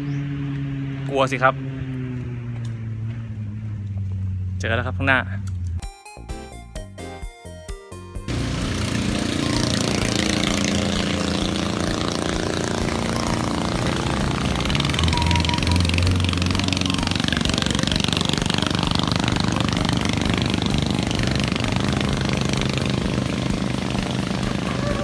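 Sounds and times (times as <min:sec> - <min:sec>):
engine droning: 0:00.0 - 0:05.8, 0:08.3 - 0:25.0.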